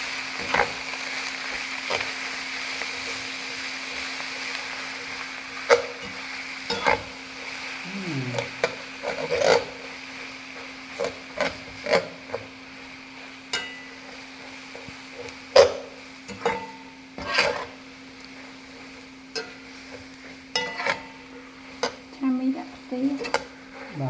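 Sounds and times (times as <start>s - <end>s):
noodles sizzling in a pan: 0.0s - 24.0s.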